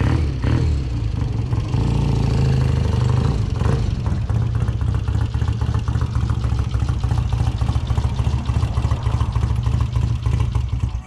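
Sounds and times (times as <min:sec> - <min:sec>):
motorcycle engine idling: 0:01.0 - 0:11.0.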